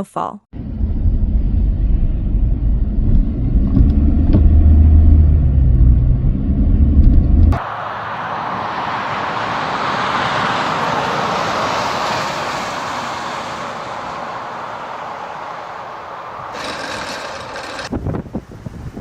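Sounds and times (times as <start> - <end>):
tyre and road noise: 1.4 - 18.2
road vehicle passing: 1.5 - 17.9.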